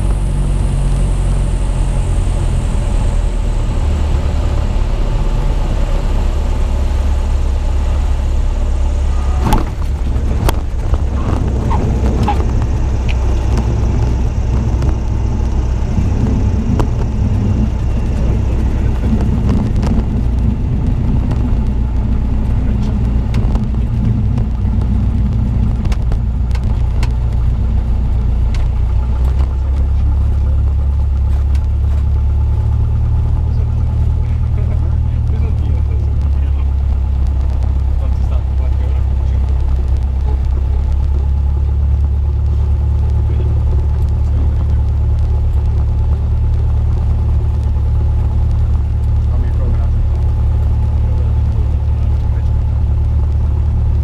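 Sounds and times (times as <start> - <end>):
aircraft engine drone: 0.0 - 54.0.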